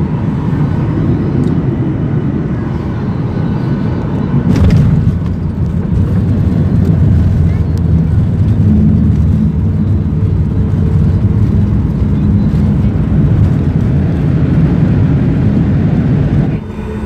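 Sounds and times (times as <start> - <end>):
jet cabin low rumble: 0.0 - 17.0.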